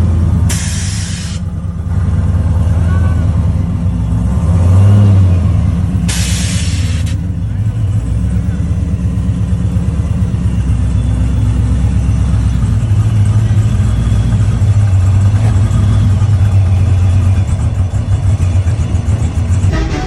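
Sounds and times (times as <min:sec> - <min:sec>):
vehicle engine idling rumble: 0:00.0 - 0:20.0.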